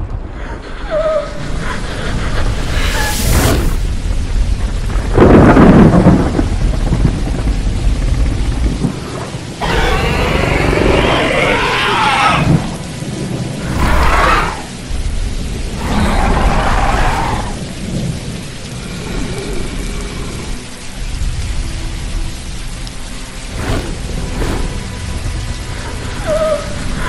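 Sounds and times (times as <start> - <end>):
continuous low rumble: 0.0 - 27.0
rushing surges: 0.0 - 27.0.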